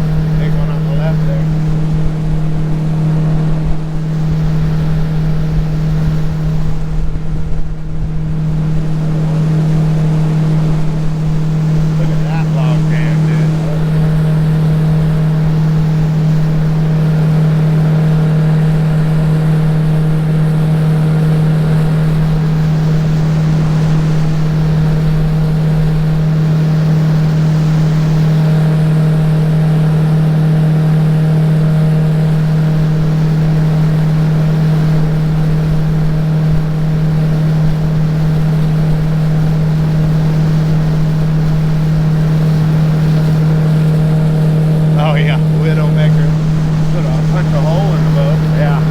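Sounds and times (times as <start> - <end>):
boat outboard motor running: 0.0 - 48.9.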